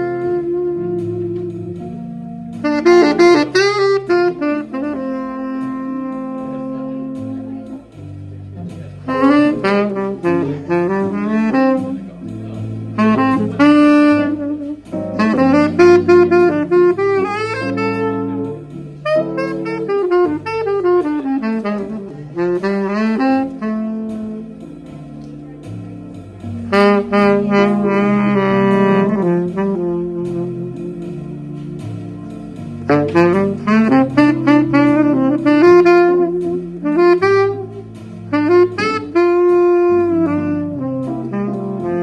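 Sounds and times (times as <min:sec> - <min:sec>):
jazz instrumental solo: 0:00.0 - 0:42.0
lower accompaniment: 0:00.0 - 0:42.0.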